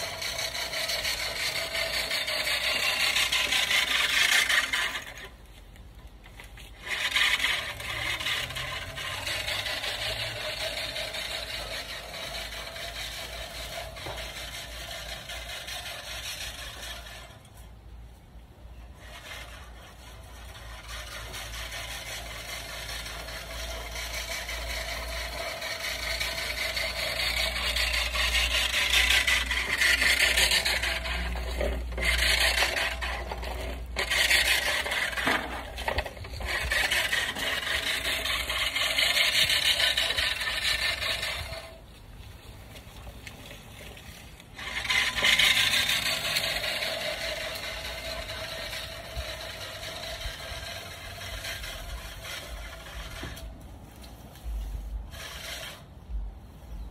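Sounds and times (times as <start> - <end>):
reel mower blades whirring: 0.0 - 56.9.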